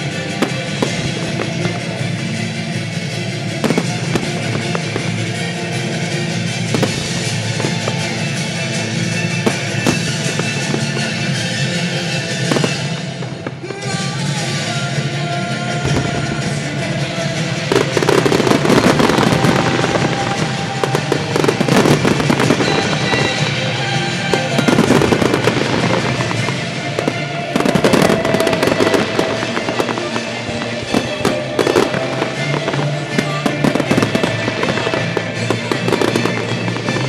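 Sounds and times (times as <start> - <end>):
fireworks bursting and crackling: 0.0 - 37.0
music playing: 0.0 - 37.0.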